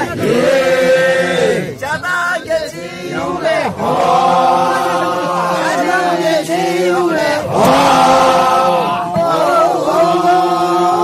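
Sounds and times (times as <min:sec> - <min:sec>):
group of voices chanting: 0:00.0 - 0:11.0.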